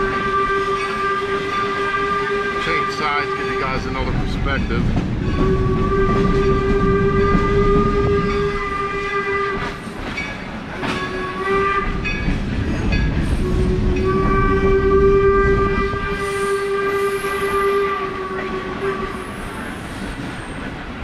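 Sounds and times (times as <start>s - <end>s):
train horn blasts: 0.0s - 10.1s, 10.8s - 12.5s, 13.2s - 19.8s
rumble of moving train: 0.0s - 21.0s.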